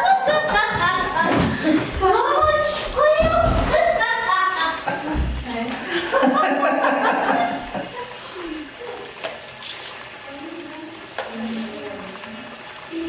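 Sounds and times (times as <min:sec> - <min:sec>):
stew bubbling in a pot: 0:00.0 - 0:13.0.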